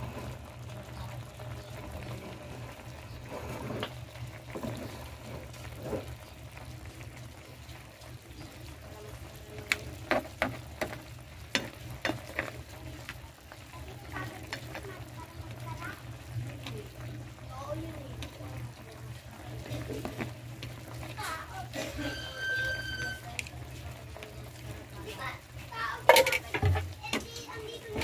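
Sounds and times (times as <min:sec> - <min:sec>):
liquid boiling in a pot: 0:00.0 - 0:28.0.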